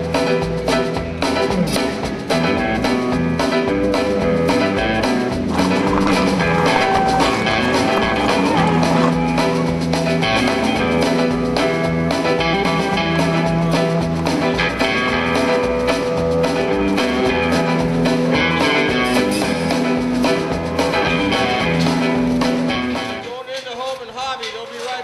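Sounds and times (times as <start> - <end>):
guitar-led instrumental music: 0.0 - 23.2.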